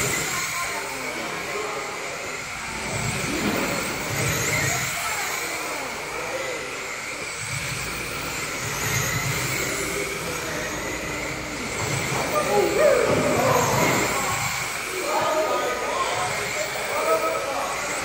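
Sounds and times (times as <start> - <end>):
large hall background noise: 0.0 - 18.0
radio-controlled car motors whining: 0.0 - 18.0.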